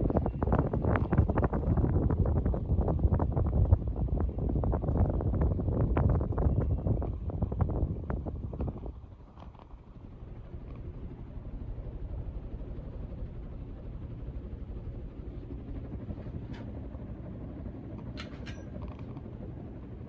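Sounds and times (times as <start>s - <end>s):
ceiling fan humming: 0.0s - 20.0s.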